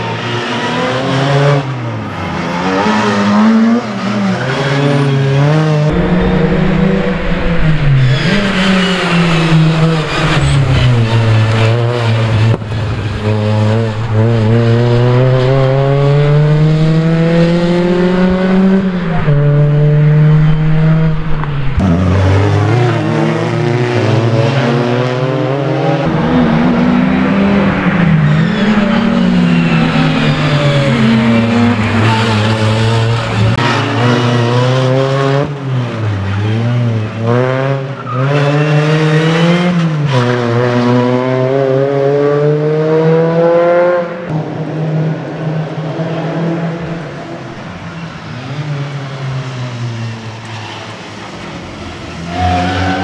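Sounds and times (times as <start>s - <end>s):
car engine revving hard: 2.4s - 44.9s.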